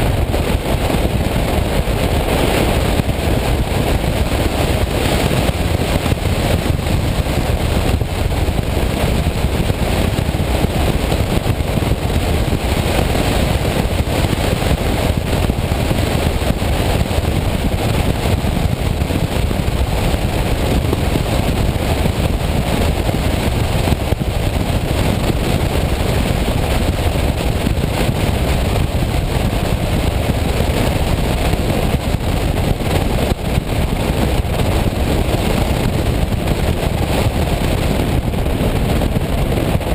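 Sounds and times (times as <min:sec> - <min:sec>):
tyre noise on wet road: 0:00.0 - 0:39.9
wind rushing over microphone: 0:00.0 - 0:39.9.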